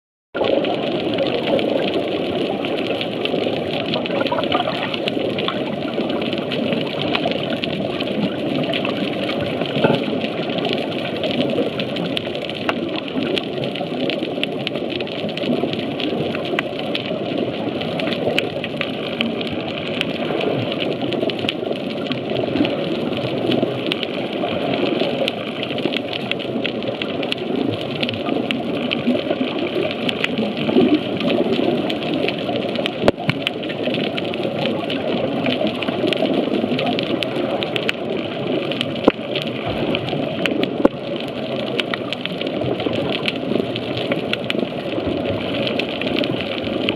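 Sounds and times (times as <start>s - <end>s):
sharp clicks and crackles: 0.4s - 46.9s.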